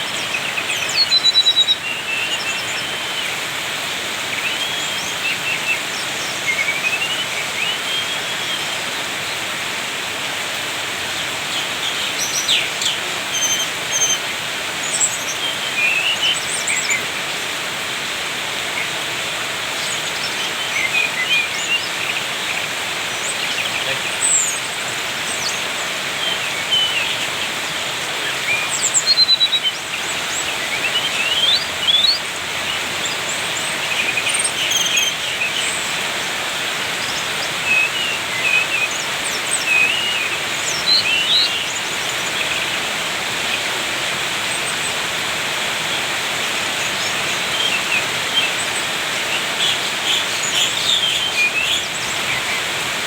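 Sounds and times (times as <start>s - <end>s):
songbird chirping: 0.0s - 53.0s.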